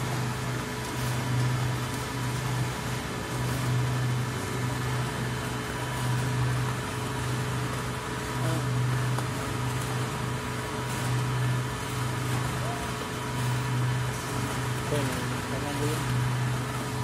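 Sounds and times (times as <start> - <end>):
mixer machine hum: 0.0 - 17.0.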